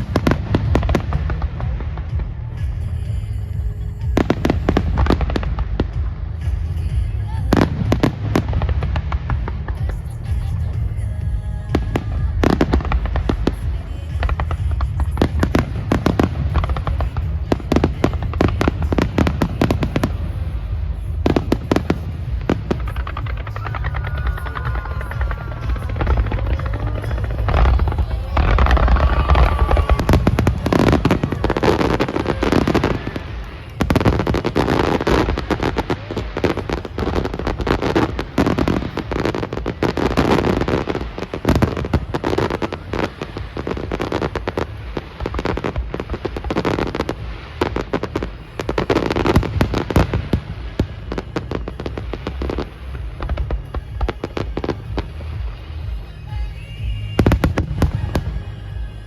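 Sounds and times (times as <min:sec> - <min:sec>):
fireworks booming: 0:00.0 - 0:59.0
fireworks crackling: 0:00.0 - 0:59.0.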